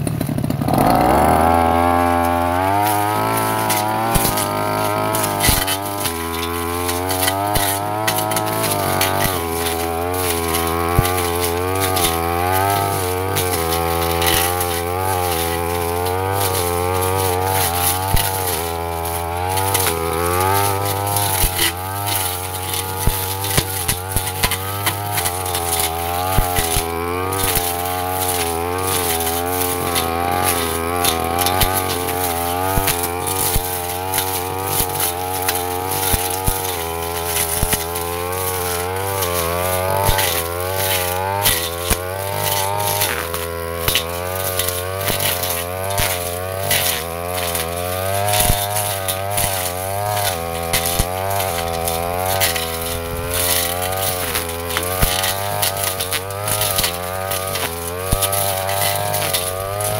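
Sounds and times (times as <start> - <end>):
blade ticking on stems: 0.0 - 59.9
brush cutter engine at high revs: 0.0 - 59.9.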